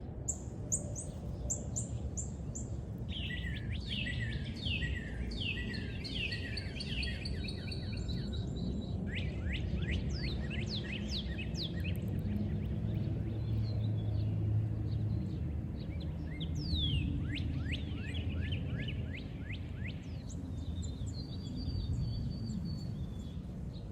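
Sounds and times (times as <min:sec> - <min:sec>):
small birds singing and calling: 0:00.3 - 0:23.9.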